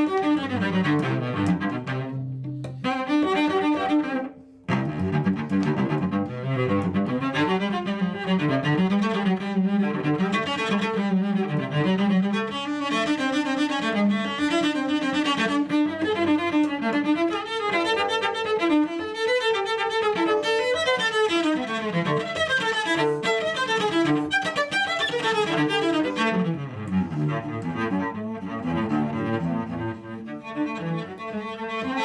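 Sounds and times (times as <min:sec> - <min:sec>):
bowed cello: 0:00.0 - 0:32.0.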